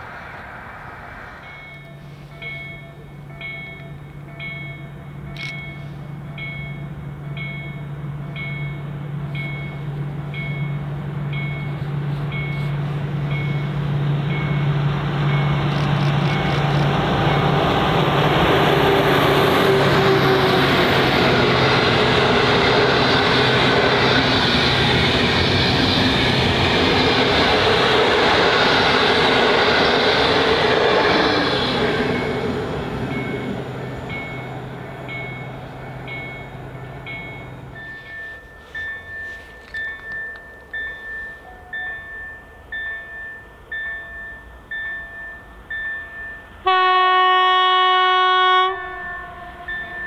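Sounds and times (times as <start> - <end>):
train wheels rolling rush: 0.0 - 42.2
diesel locomotive engine drone: 0.0 - 50.0.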